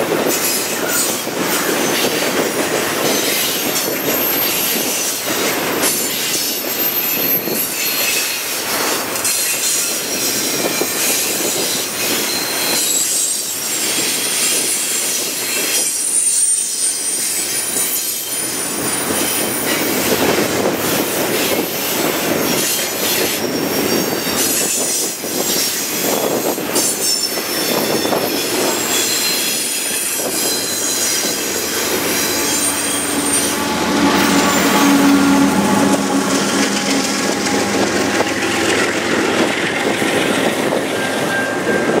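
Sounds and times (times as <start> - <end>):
freight train rolling past: 0.0 - 42.0
train wheels squealing and clattering: 0.0 - 42.0.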